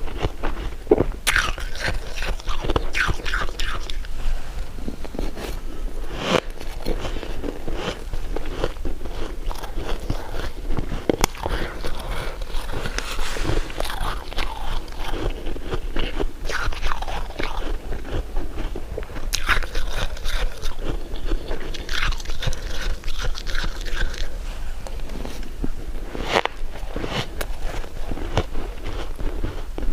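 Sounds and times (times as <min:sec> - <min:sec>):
chewing crunchy food: 0:00.0 - 0:29.9.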